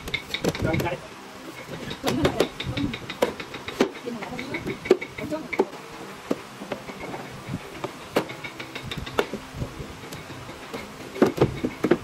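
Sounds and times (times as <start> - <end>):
carpentry knocks and taps: 0.0 - 1.0, 1.7 - 12.0.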